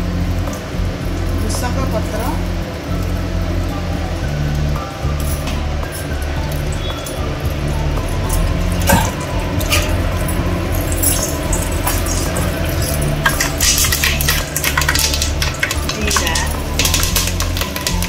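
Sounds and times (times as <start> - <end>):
leaves crackling in hot oil: 0.0 - 18.0
steady low hum: 0.0 - 18.0.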